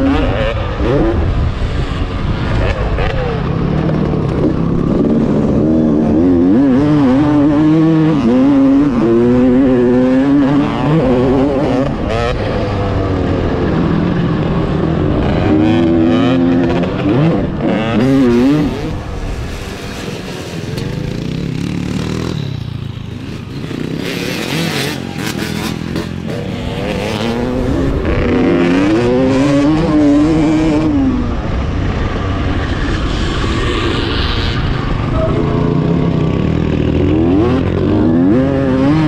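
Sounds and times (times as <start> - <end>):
motocross engine revving: 0.0 - 32.3, 33.0 - 39.0.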